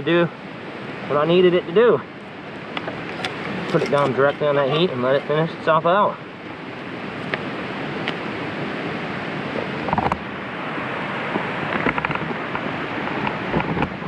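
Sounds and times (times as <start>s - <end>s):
rain: 0.0s - 14.0s
wind: 0.0s - 14.0s.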